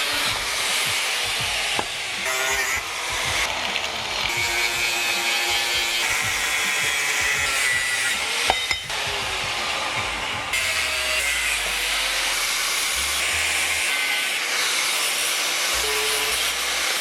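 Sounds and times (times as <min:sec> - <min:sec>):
power tool grinding metal: 0:00.0 - 0:17.0.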